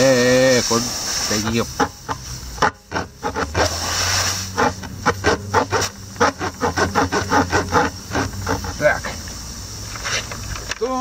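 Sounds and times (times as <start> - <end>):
steady low hum: 0.0 - 10.6
tyre plug tool rasping in tyre: 1.3 - 10.6.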